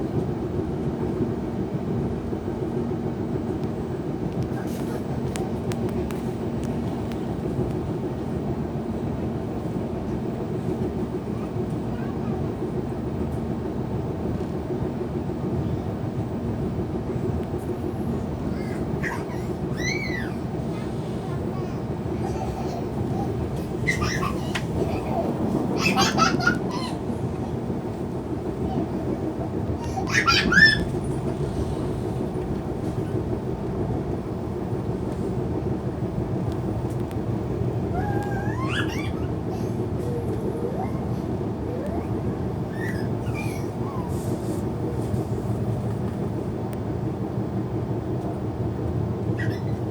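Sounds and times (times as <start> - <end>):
train running low rumble: 0.0 - 49.9.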